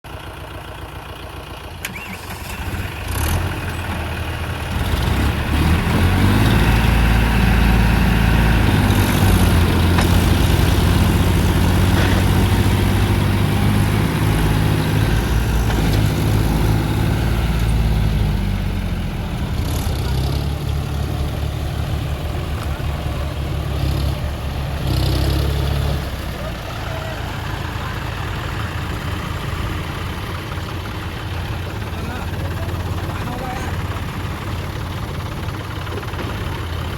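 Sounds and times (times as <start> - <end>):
tractor engine revving: 0.2 - 36.9.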